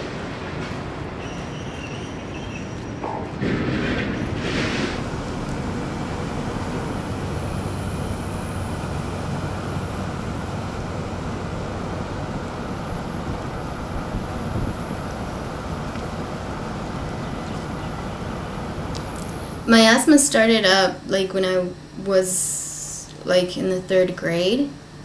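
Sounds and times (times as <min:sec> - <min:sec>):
vehicle road and engine rumble: 0:00.0 - 0:22.0.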